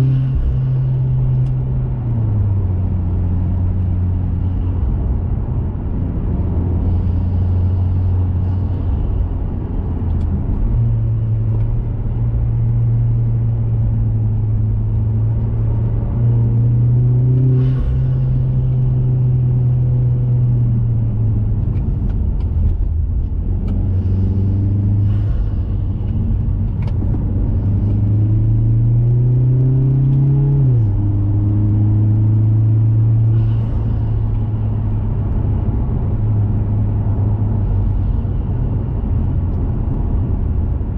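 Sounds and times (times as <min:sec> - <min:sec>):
car engine droning while driving: 0:00.0 - 0:40.9.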